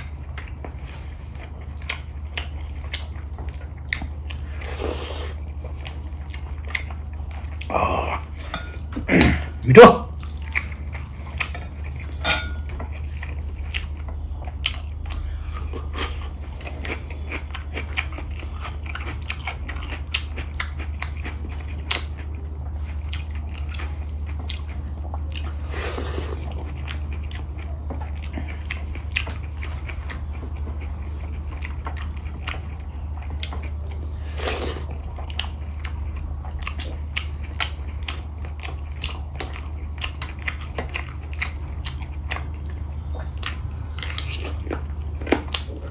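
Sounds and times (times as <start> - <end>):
chewing and biting food: 0.0 - 9.3, 10.1 - 45.9
steady low hum: 0.0 - 45.9.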